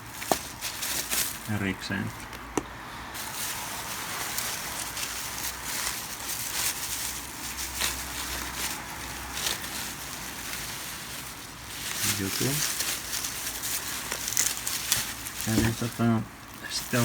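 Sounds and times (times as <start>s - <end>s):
paper and plastic wrapping rustling: 0.0s - 17.0s.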